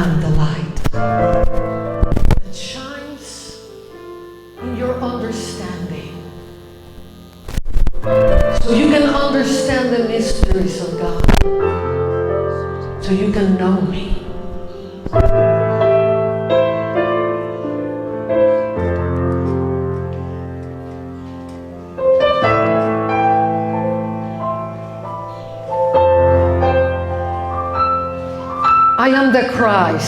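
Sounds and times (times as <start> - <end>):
piano playing slow chords: 0.0 - 30.0.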